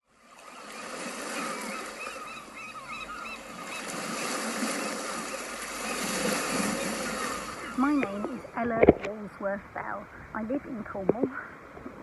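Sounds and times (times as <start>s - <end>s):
sea noise: 0.0s - 12.0s
gulls calling: 0.2s - 11.8s.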